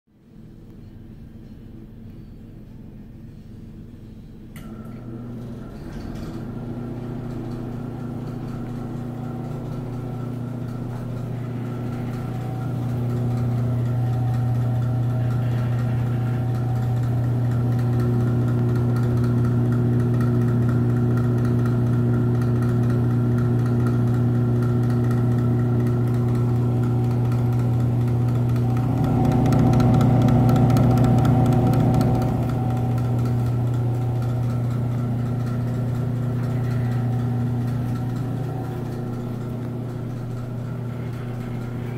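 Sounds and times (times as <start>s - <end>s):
exhaust fan motor hum: 0.7s - 41.9s
fan rattling: 4.6s - 41.9s.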